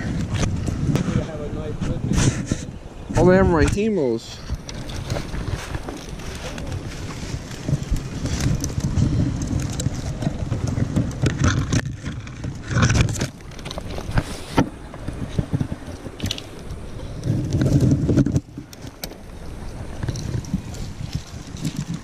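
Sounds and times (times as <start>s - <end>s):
wind rumbling on microphone: 0.0s - 22.0s
handling scrapes and knocks: 3.6s - 22.0s.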